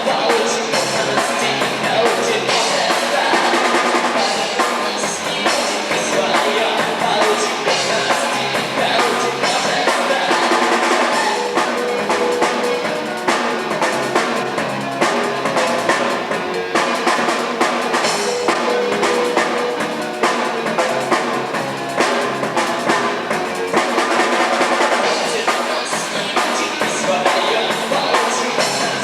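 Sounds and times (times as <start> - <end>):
live band playing: 0.0 - 29.0.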